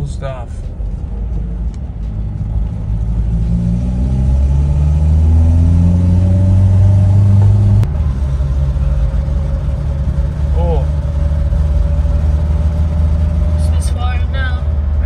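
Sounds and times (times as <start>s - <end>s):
car engine accelerating: 0.6s - 15.0s.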